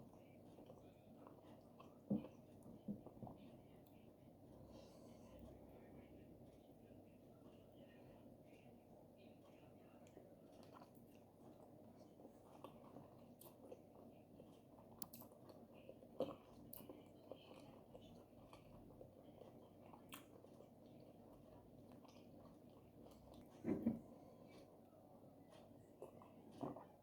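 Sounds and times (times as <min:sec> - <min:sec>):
chewing and wet mouth sounds: 0:00.0 - 0:05.7, 0:07.4 - 0:27.0.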